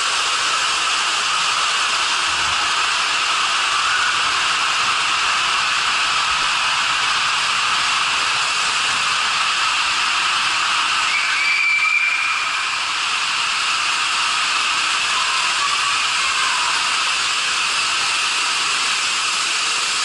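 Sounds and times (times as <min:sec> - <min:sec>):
water rushing in tube: 0:00.0 - 0:20.0.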